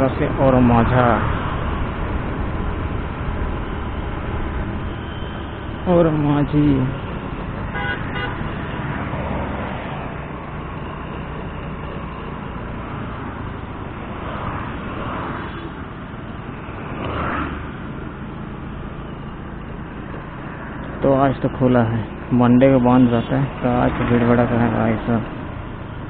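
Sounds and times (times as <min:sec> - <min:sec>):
engine and tyre rumble: 0:00.0 - 0:26.0
vehicles passing: 0:00.0 - 0:26.0.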